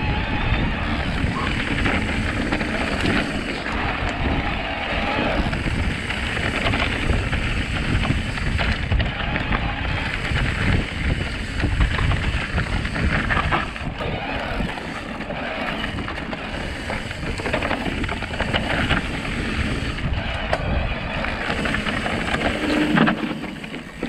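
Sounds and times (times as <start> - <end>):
bike rattling and clicking: 0.0 - 24.0
bike tyres rolling on dirt: 0.0 - 24.0
wind buffeting microphone: 0.0 - 24.0.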